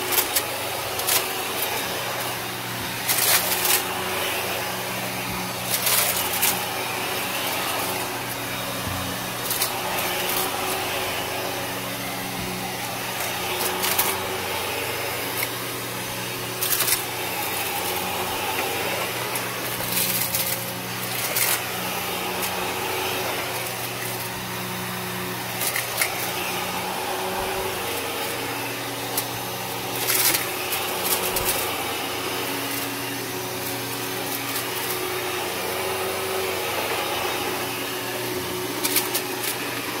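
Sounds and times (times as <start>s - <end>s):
debris crunching in vacuum: 0.0s - 33.0s
vacuum cleaner running on carpet: 0.0s - 40.0s.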